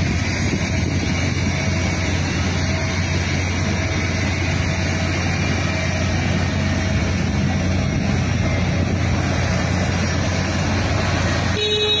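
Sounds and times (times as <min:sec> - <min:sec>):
running vehicle rumble and hiss: 0:00.0 - 0:12.0.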